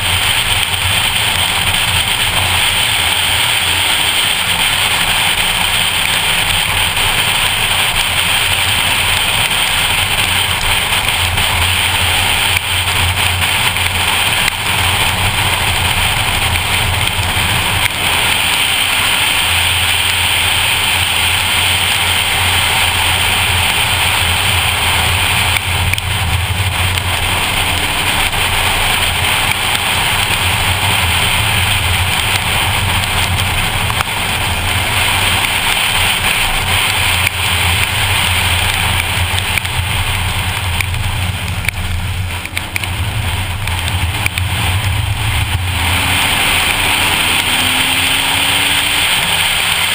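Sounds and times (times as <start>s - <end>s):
car engine under load: 0.0s - 49.9s
rain and tyre spray hiss: 0.0s - 49.9s.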